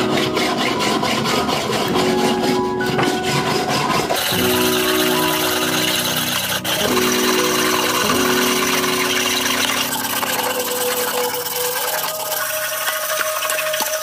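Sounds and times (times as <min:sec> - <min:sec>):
chain scraping on wooden board: 0:00.0 - 0:11.3
sustained humming tones: 0:01.9 - 0:14.0.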